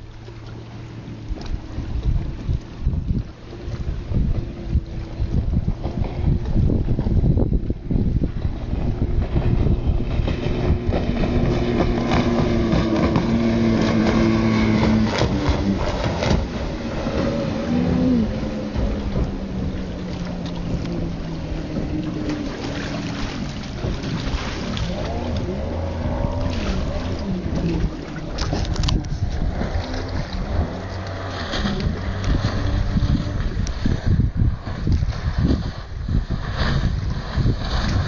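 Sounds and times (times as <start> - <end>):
outboard motor running at speed: 0.0 - 38.0.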